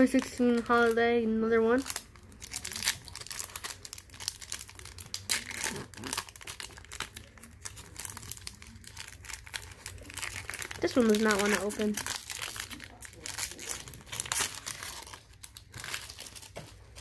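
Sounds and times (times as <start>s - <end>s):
wrapper crinkling: 0.0s - 17.0s.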